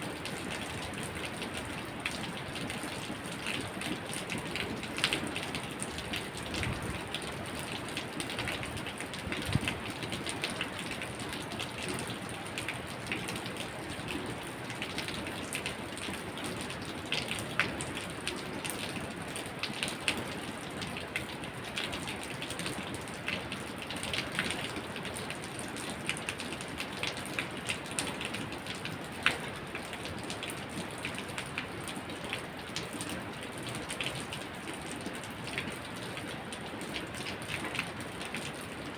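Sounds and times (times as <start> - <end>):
raindrops ticking on a surface: 0.0 - 38.9
steady rain falling: 0.0 - 38.9.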